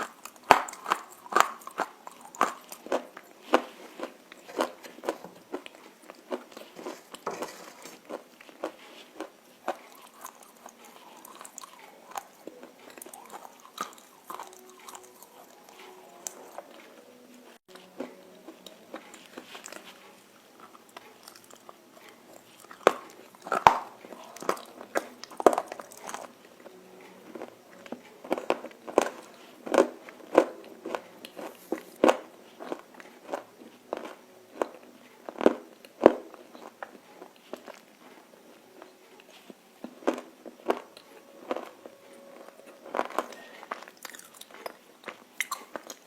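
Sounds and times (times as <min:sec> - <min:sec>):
person chewing: 0:00.0 - 0:46.0.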